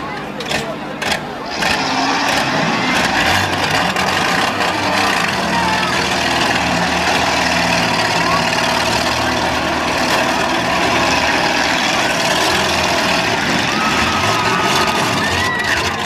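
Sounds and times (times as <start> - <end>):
car engines running: 0.0 - 16.0
dense background din: 0.0 - 16.0.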